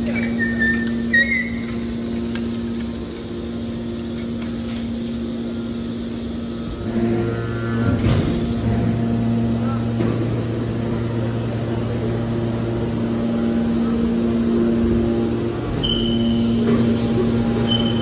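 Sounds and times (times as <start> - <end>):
hydraulic power unit humming: 0.0 - 18.0
lower hum: 0.0 - 18.0.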